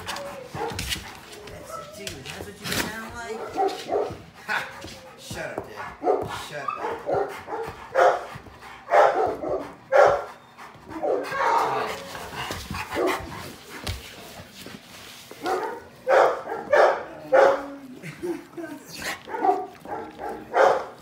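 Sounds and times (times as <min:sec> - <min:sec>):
dogs barking and play-fighting: 0:00.0 - 0:21.0.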